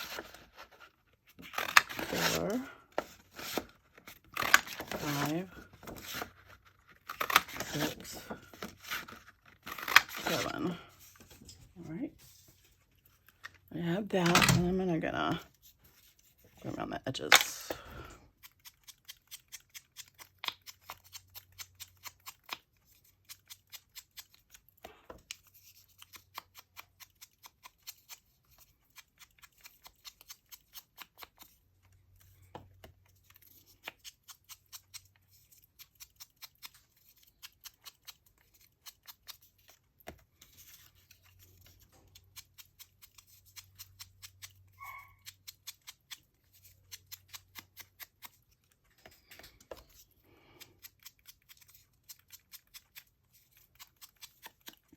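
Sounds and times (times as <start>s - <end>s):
scissors snipping paper: 0.0s - 10.8s, 17.4s - 31.6s, 32.3s - 54.9s.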